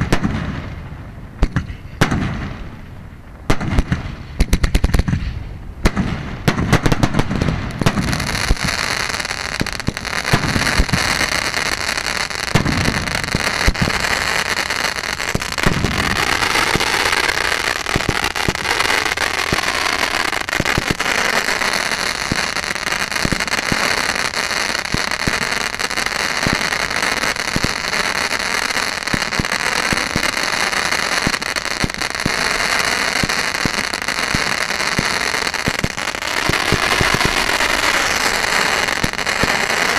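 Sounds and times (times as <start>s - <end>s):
firework crackles: 0.0s - 39.9s
sharp firework cracks: 0.0s - 39.9s
firework fountains hissing: 7.7s - 39.9s.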